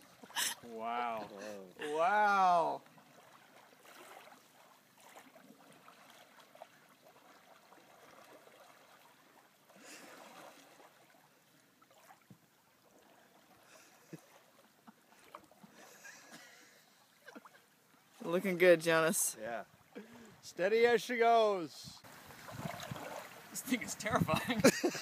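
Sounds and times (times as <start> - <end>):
canoe paddle dipping in water: 0.0 - 20.5, 21.9 - 25.0.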